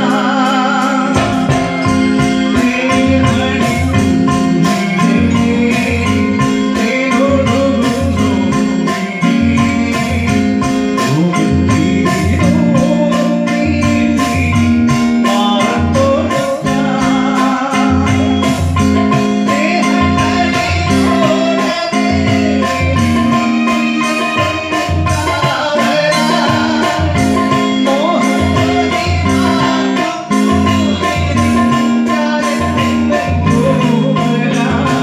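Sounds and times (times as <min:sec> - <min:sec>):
drum kit beat: 0:00.0 - 0:35.0
live band music: 0:00.0 - 0:35.0
man singing into a microphone: 0:00.0 - 0:35.0.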